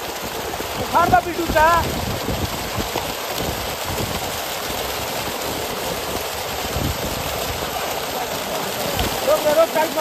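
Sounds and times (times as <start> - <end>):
fish thrashing and splashing: 1.6 - 10.0.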